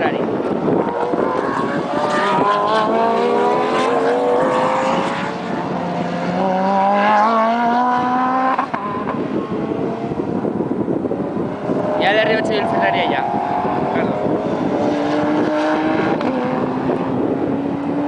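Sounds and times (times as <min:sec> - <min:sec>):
racing car engines accelerating: 0:00.0 - 0:18.0.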